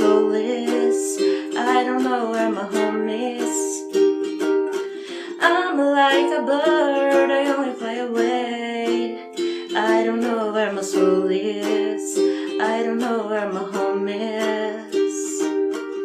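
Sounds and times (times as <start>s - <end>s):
person singing: 0.0s - 16.0s
ukulele strumming: 0.0s - 16.0s.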